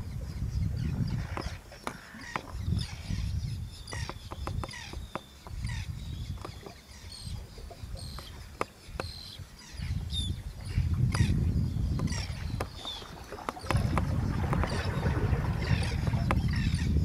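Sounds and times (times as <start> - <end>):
small birds chirping: 0.0 - 17.0
wind rumbling on microphone: 0.0 - 17.0.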